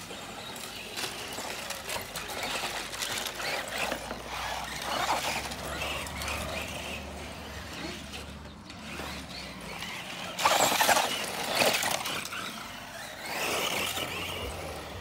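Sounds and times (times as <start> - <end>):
radio-controlled car motors running: 0.0 - 15.0
tyres scrabbling over soil: 0.0 - 15.0.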